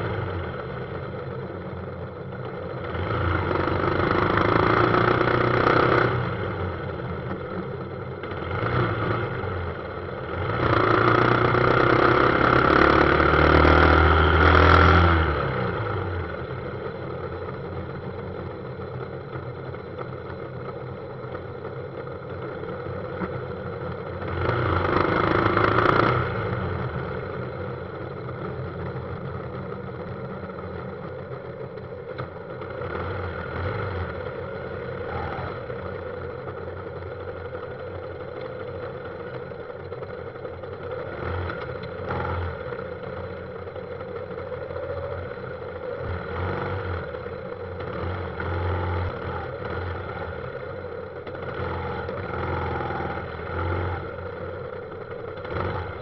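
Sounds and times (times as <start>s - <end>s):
motorbike engine running: 0.0s - 56.0s
traffic of motorbikes and cars: 0.0s - 56.0s.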